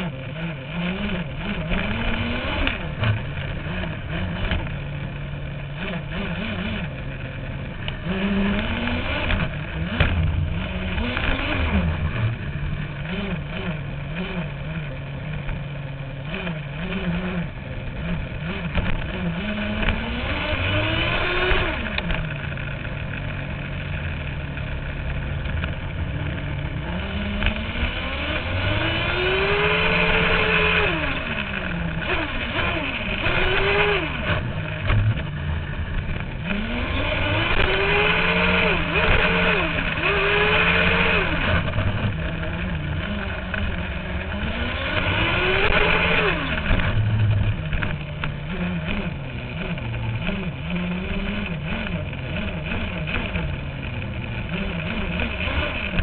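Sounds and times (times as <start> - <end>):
rc car motor revving: 0.0 - 4.8, 5.6 - 15.0, 16.2 - 22.4, 26.2 - 35.4, 36.0 - 56.0.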